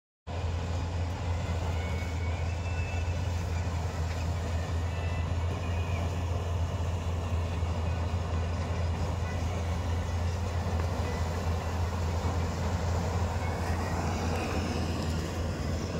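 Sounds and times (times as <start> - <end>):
combine harvester engine droning: 0.3 - 15.9.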